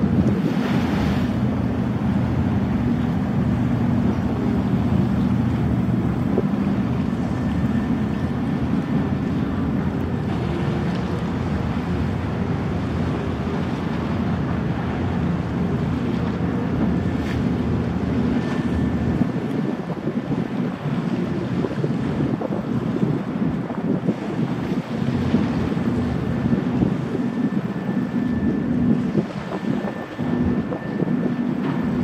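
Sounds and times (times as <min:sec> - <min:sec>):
boat engines droning: 0:00.0 - 0:32.0
wake water wash: 0:00.0 - 0:32.0
wind buffeting microphone: 0:00.0 - 0:32.0.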